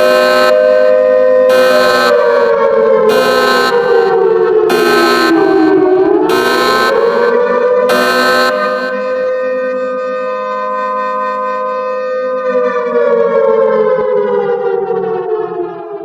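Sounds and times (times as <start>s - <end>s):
siren-like tone: 0.0s - 16.0s.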